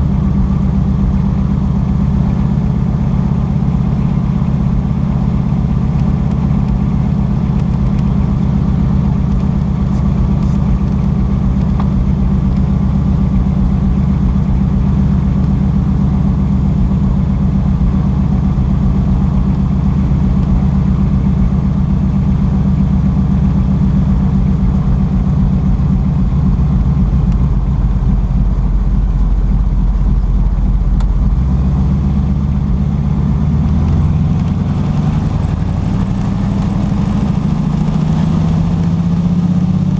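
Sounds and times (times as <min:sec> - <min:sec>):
radial aircraft engine drone: 0:00.0 - 0:39.9.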